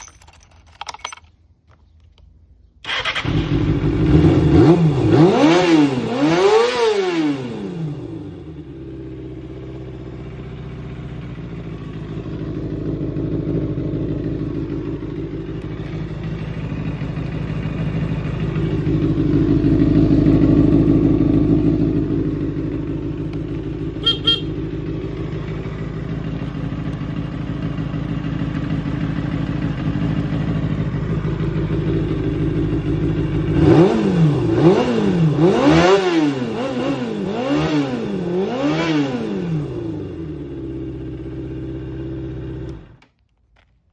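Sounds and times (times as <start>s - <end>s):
motorcycle engine revving and idling: 2.8s - 43.1s.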